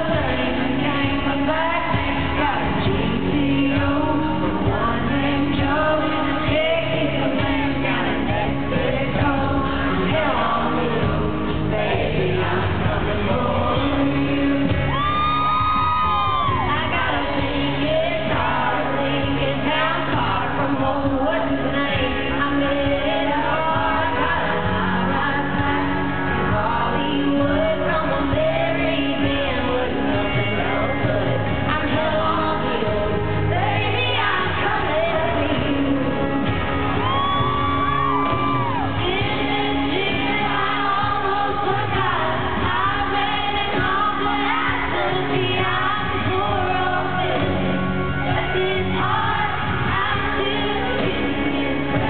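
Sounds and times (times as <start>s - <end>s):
live country band: 0.0s - 52.0s
women singing: 0.0s - 52.0s.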